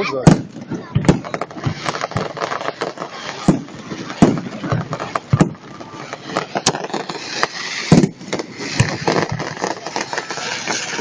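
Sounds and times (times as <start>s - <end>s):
fireworks bursting with deep bangs: 0.2s - 11.0s.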